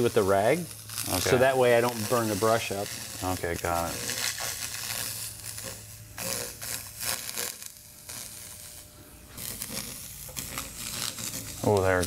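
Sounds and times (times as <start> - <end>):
cleaning wand sizzling and crackling: 0.0 - 12.0.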